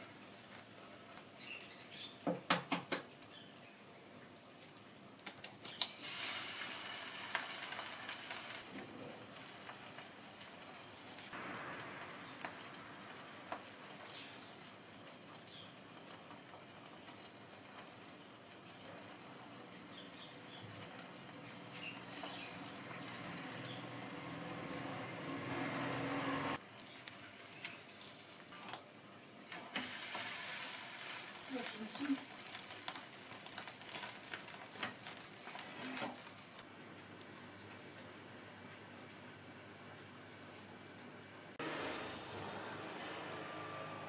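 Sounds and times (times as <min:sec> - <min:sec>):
food sizzling in a skillet: 0:00.0 - 0:36.6.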